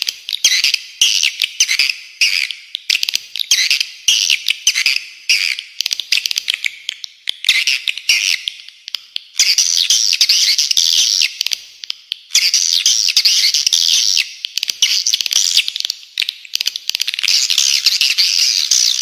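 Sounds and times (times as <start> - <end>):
birds chattering high-pitched: 0.0 - 11.6, 12.3 - 15.9, 17.0 - 19.0.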